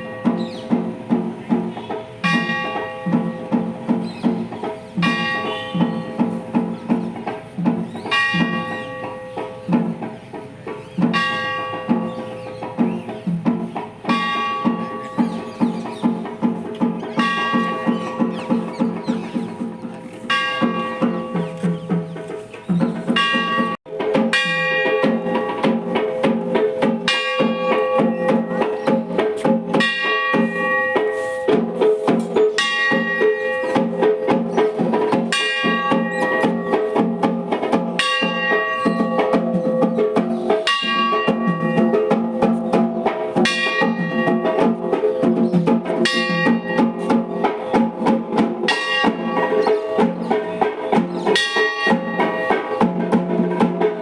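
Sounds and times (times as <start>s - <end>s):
music with percussive beat: 0.0s - 54.0s.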